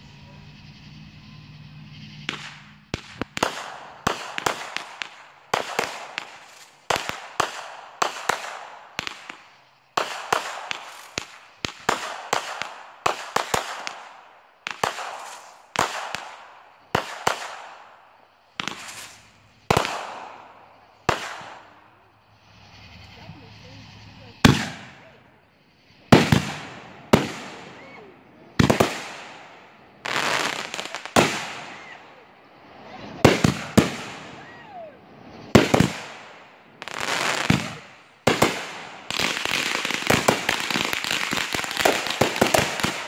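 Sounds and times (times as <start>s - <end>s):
fireworks bangs: 1.9s - 21.9s, 24.4s - 25.2s, 26.1s - 43.0s.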